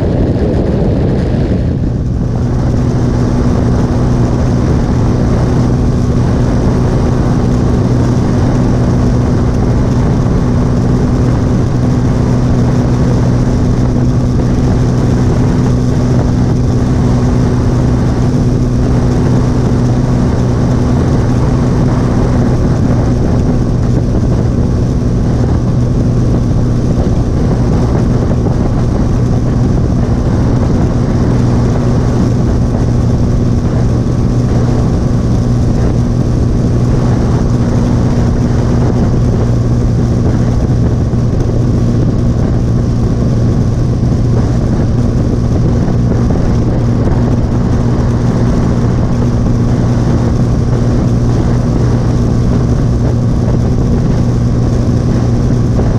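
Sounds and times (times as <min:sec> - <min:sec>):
motorcycle engine cruising: 0:00.0 - 0:55.9
wind and road noise: 0:00.0 - 0:55.9.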